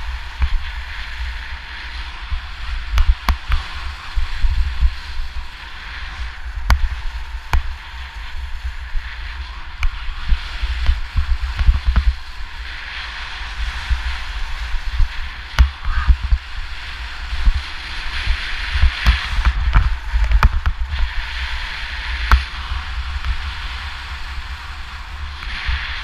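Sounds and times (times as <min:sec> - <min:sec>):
skis scraping over snow: 0:00.0 - 0:26.0
wind buffeting microphone: 0:00.0 - 0:26.0.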